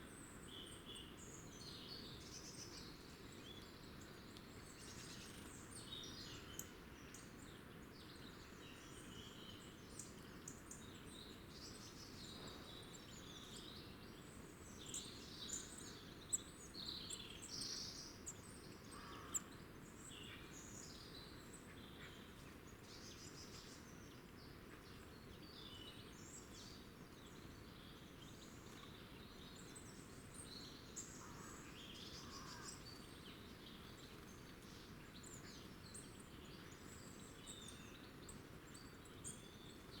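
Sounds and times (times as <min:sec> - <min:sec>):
faint low background noise: 0:00.0 - 0:40.0
small birds chirping: 0:00.0 - 0:40.0.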